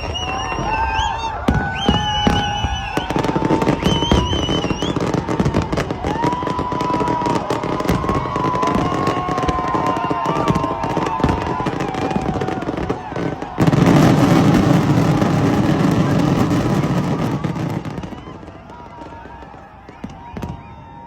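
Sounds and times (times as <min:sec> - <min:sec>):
fireworks crackling and banging: 0:00.0 - 0:21.0.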